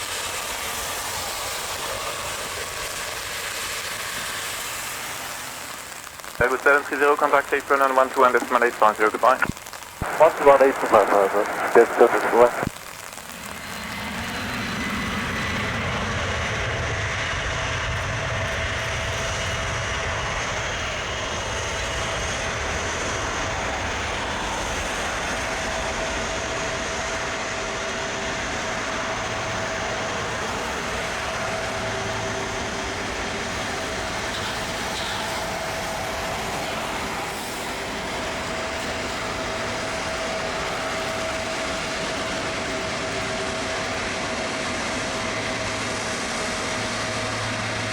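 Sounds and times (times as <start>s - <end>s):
jet engines running at low thrust: 0.0s - 47.9s.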